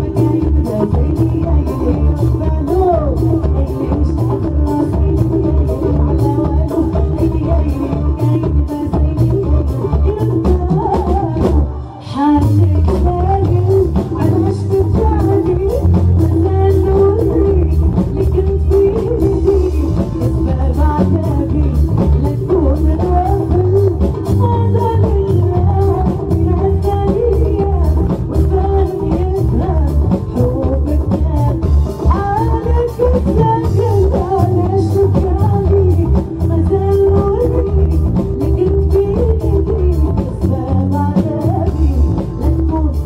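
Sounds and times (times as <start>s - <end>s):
live band playing pop: 0.0s - 43.0s
woman singing lead vocal: 0.0s - 43.0s.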